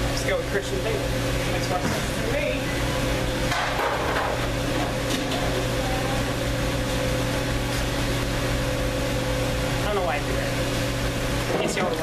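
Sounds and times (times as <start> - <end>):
kitchen machine hum: 0.0 - 12.0.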